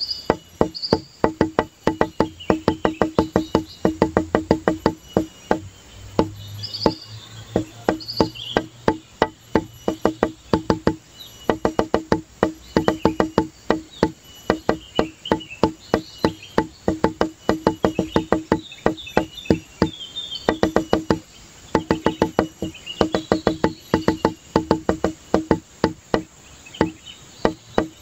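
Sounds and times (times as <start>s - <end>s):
high chirping notes: 0.0s - 28.0s
pitched wooden clicks beat: 0.0s - 28.0s.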